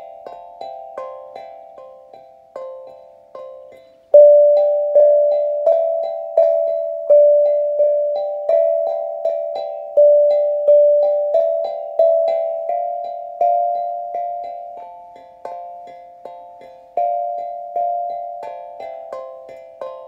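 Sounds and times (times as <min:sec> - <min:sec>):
slow melody of plucked notes: 0:00.0 - 0:20.0.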